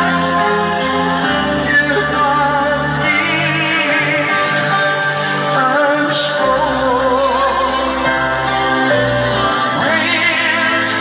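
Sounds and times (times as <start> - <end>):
live band playing: 0.0 - 11.0
man singing: 0.0 - 11.0.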